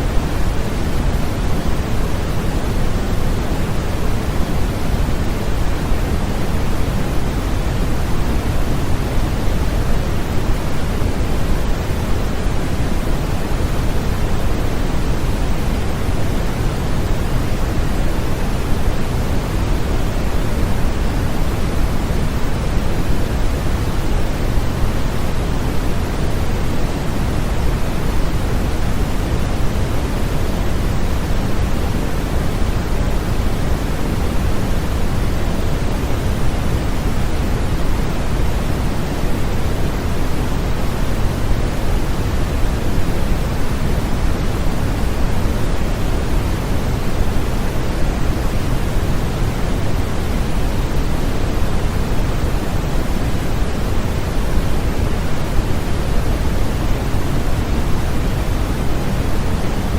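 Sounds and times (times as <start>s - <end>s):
deep soft white noise hiss: 0.0s - 59.9s.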